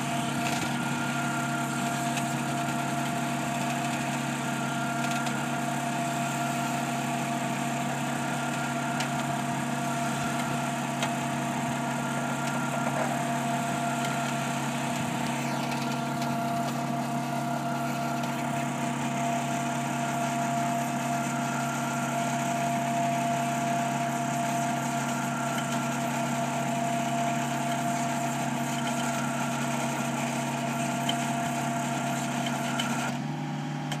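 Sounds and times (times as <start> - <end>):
machine engine running under load: 0.0 - 34.0.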